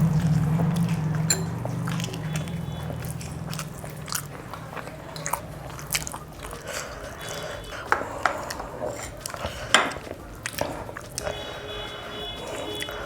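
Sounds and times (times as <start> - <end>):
person chewing noodles: 0.0 - 13.0.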